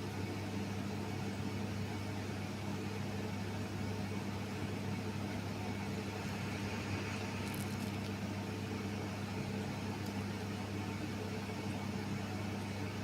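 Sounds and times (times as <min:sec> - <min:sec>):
blower humming: 0:00.0 - 0:13.0.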